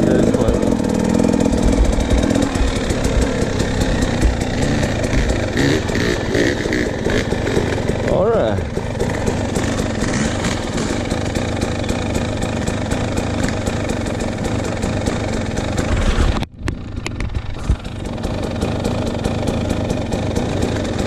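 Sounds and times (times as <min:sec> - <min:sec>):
dirt bike engine idling: 0:00.0 - 0:21.0.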